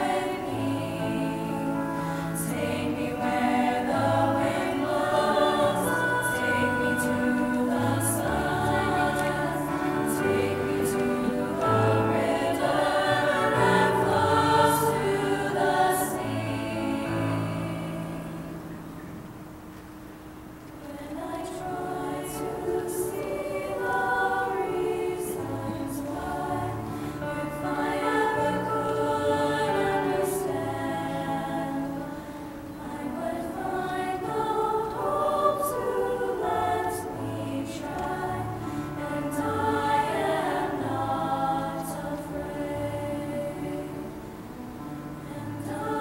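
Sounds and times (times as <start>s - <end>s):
female choir singing in harmony: 0.0s - 19.4s, 20.7s - 46.0s.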